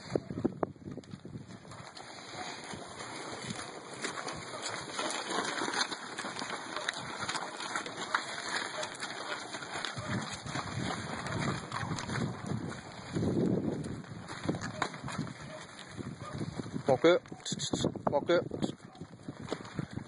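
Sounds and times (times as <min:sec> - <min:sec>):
noisy rustle: 0:00.0 - 0:20.0
footsteps and hooves on straw: 0:01.0 - 0:17.8.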